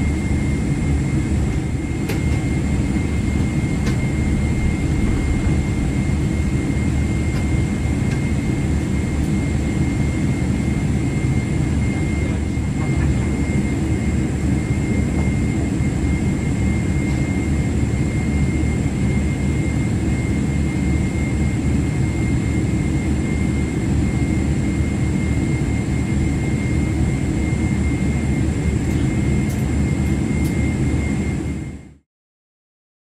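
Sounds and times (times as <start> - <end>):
jet engine idling: 0.0 - 32.0.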